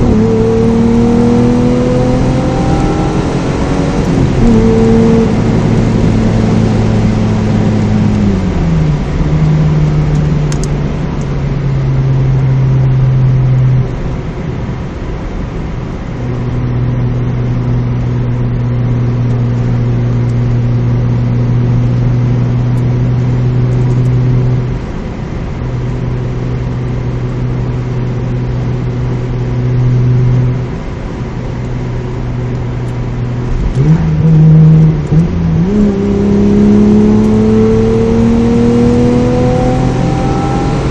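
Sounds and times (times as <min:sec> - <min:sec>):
car engine droning in cabin: 0:00.0 - 0:40.9.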